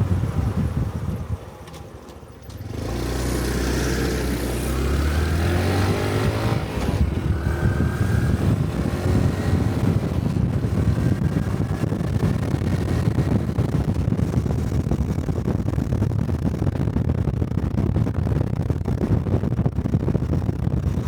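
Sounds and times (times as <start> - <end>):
motorcycle engine cruising: 0.0 - 21.0
wind noise on microphone: 0.0 - 21.0.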